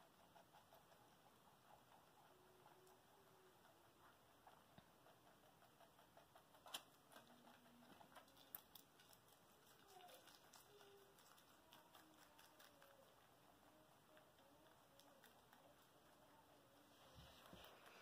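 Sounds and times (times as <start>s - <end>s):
rabbits chewing vegetables: 0.0s - 18.0s.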